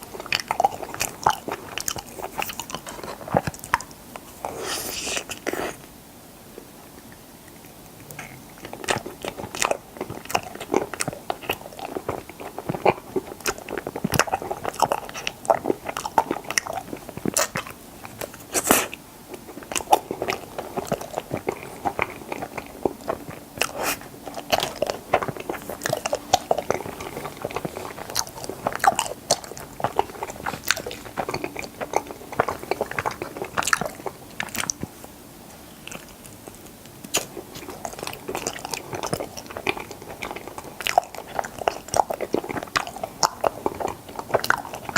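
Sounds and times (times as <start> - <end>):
close chewing and biting: 0.0 - 6.0, 6.6 - 44.9.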